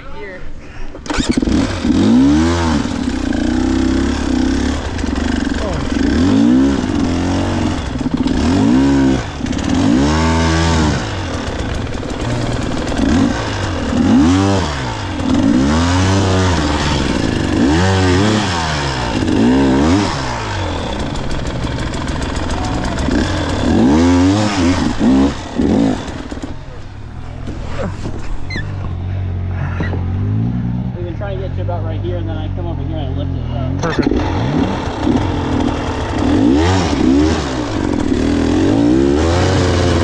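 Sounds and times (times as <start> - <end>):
dirt bike engine revving: 1.0 - 40.0.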